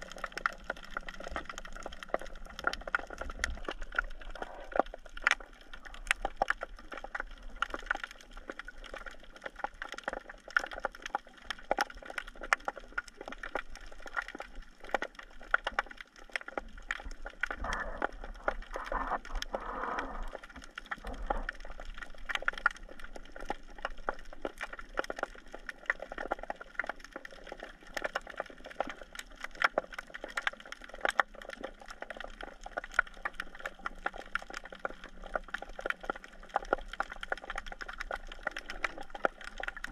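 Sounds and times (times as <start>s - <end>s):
underwater rush of water: 0.0s - 39.9s.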